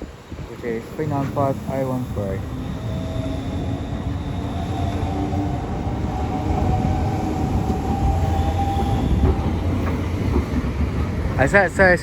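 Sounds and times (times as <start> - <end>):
electric train traction whine: 0.0 - 12.0
low train rumble: 0.0 - 12.0.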